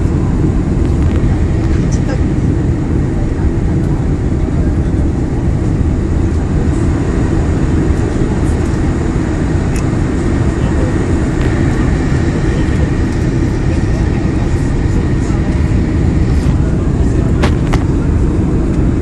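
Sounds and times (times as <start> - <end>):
airflow past fuselage: 0.0 - 19.0
jet engines rumbling: 0.0 - 19.0.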